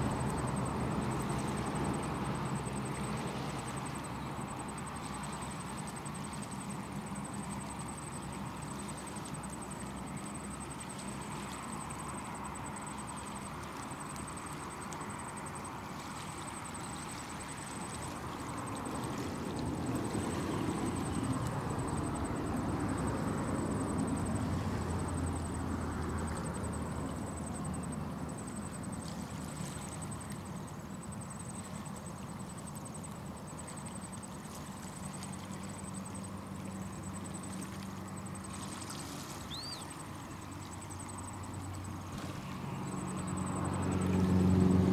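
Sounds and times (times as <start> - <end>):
distant engine hum: 0.0 - 44.9.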